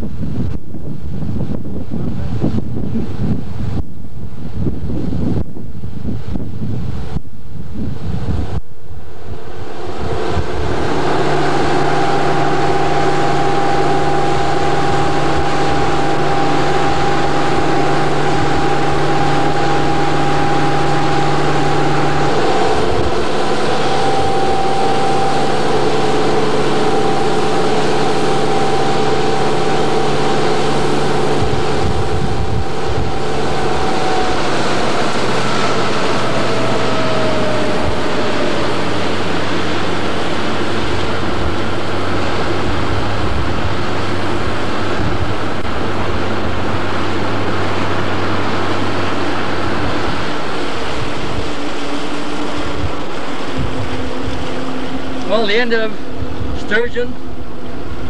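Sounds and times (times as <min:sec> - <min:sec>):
motorboat engine running: 0:00.0 - 0:58.0
rush of wind and water: 0:00.0 - 0:58.0.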